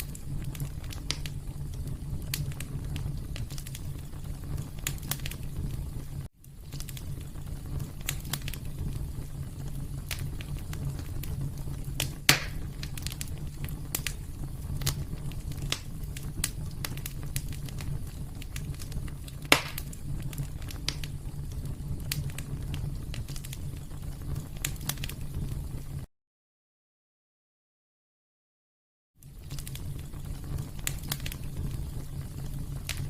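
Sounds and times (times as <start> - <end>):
fire pops: 0.0 - 26.1, 29.2 - 33.0
wood fire crackling: 0.0 - 26.1, 29.2 - 33.0.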